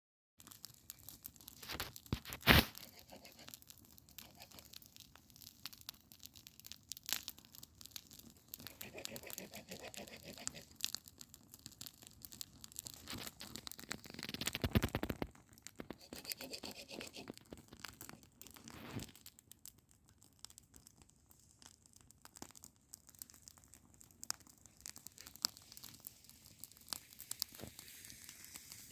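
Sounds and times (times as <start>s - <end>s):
campfire crackling and popping: 0.4s - 28.9s.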